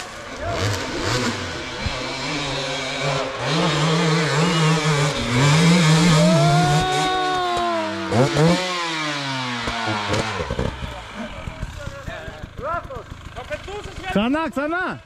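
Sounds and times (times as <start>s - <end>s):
dirt bike engine revving: 0.0s - 14.4s.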